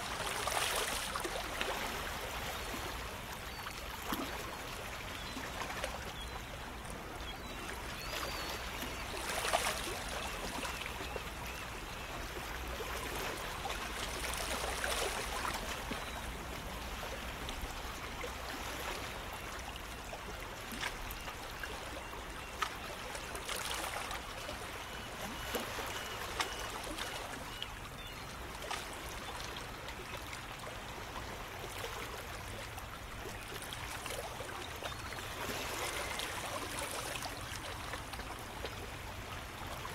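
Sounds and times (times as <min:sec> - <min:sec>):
small water splashes: 0:00.0 - 0:06.5, 0:07.3 - 0:39.9.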